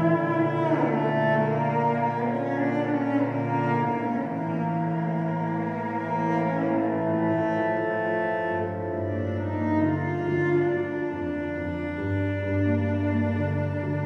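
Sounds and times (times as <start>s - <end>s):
cello bowed in sustained notes: 0.0s - 14.0s.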